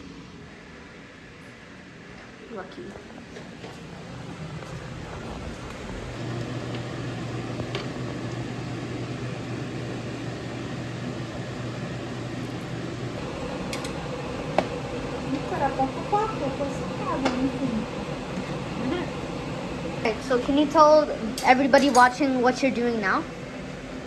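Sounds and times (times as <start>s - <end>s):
fan hum: 0.0s - 24.0s.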